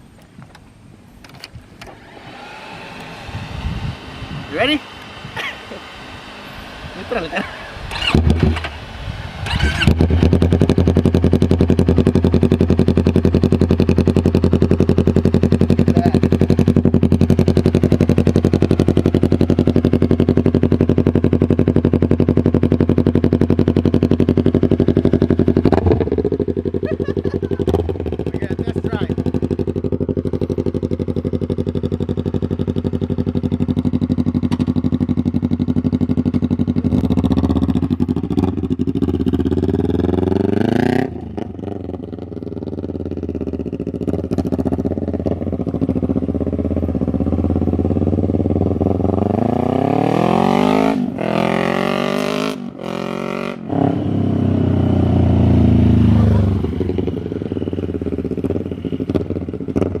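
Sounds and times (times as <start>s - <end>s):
motorcycle engine revving: 1.8s - 60.0s.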